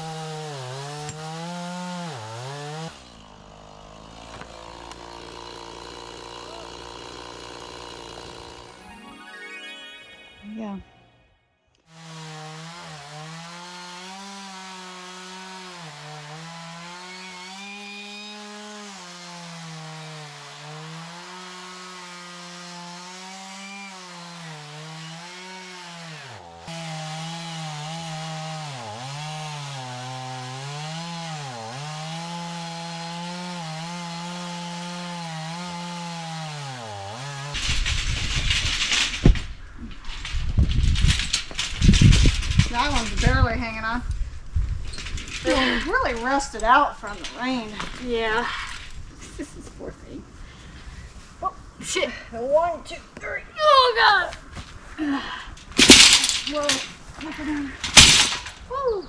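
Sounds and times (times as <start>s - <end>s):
chainsaw cutting wood: 0.0s - 10.3s, 11.8s - 43.9s, 44.5s - 49.0s, 55.5s - 58.7s.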